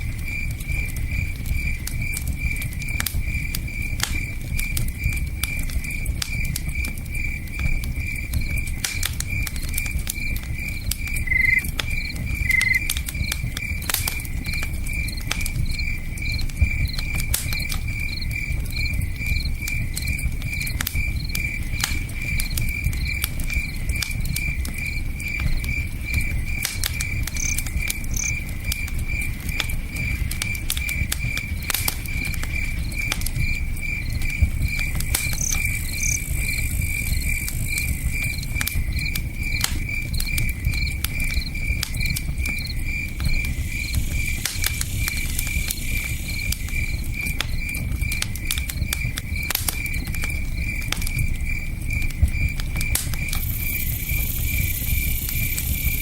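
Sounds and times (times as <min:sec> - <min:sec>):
campfire crackling: 0:00.0 - 0:56.0
cricket chirping: 0:00.0 - 0:56.0.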